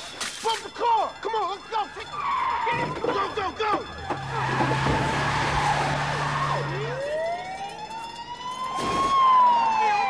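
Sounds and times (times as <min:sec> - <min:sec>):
police siren wailing: 0:00.0 - 0:10.0.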